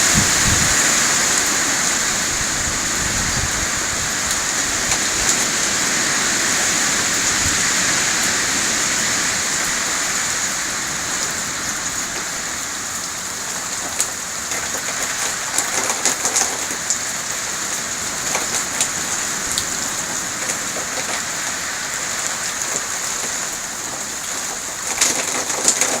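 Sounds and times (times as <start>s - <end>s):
rain and wind hissing: 0.0s - 26.0s.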